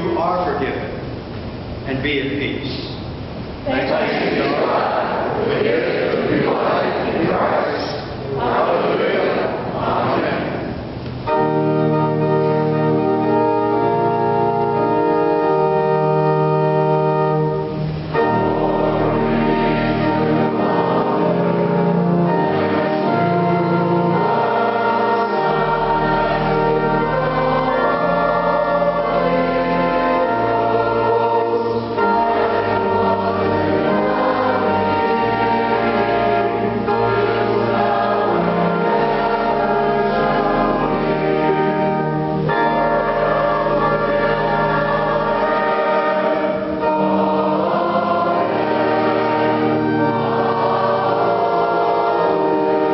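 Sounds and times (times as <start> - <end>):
church organ chords: 0.0 - 2.4, 3.4 - 52.9
group singing a hymn: 3.6 - 52.9.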